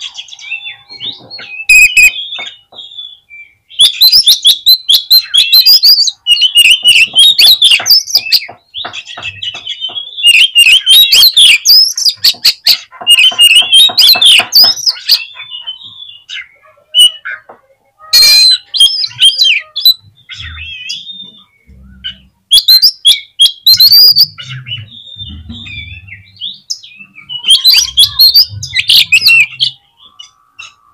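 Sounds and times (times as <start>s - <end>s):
magpie-robin singing: 0.0s - 30.9s.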